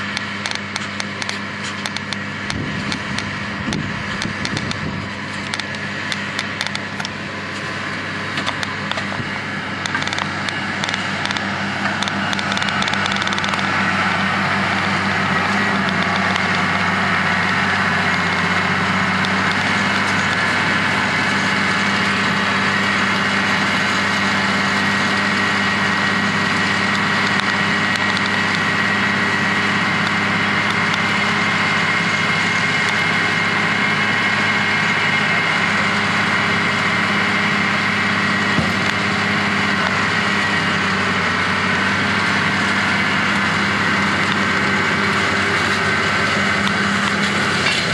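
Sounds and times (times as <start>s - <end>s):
farm machinery engine hum: 0.0s - 47.9s
high machine whine: 0.0s - 47.9s.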